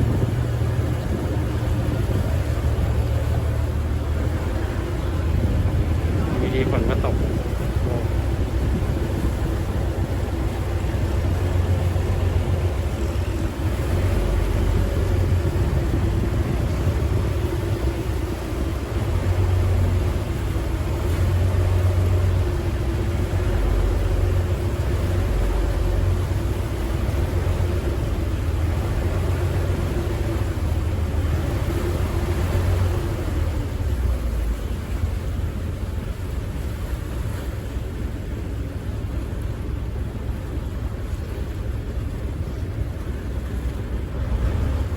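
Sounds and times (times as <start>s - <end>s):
ferry engine rumbling: 0.0s - 44.9s.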